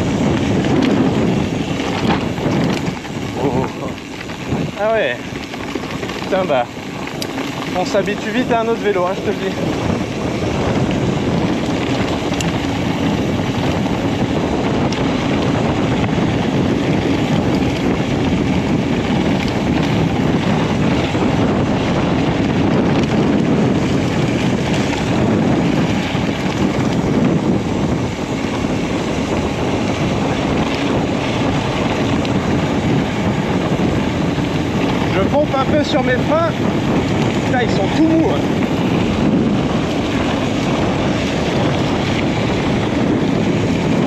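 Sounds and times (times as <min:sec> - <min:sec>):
bike clicks and rattles: 0:00.0 - 0:44.0
knobby tyres rumbling on gravel: 0:00.0 - 0:44.0
wind rushing over microphone: 0:00.0 - 0:44.0.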